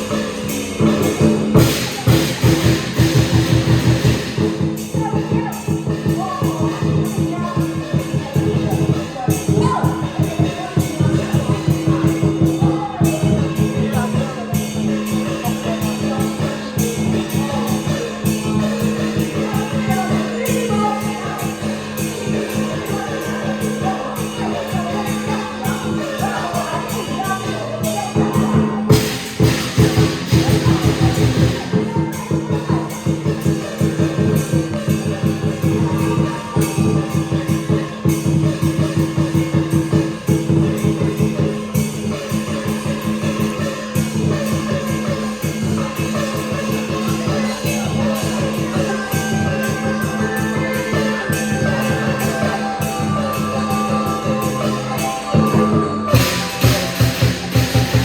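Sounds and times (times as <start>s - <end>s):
bass: 0.0s - 58.0s
drum and cymbal strokes: 0.0s - 58.0s.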